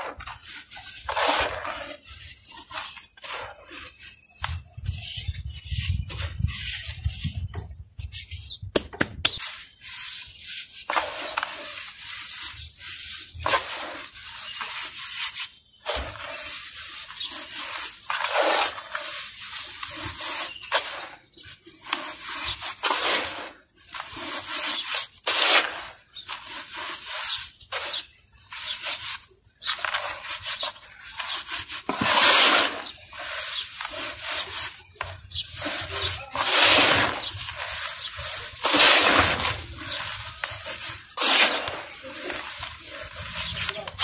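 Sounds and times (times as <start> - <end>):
hands rubbing gritty powder: 0.0 - 8.7, 9.3 - 44.0.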